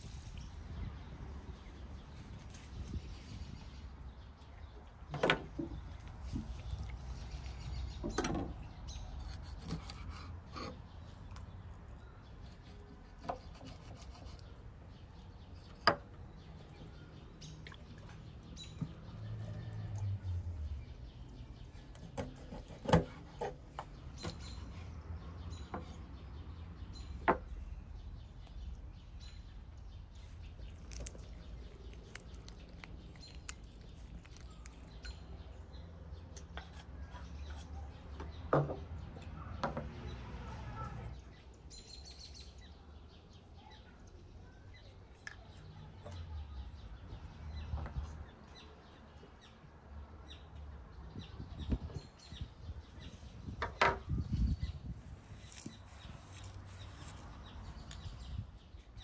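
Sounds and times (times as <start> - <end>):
birds chirping: 0.1 - 59.0.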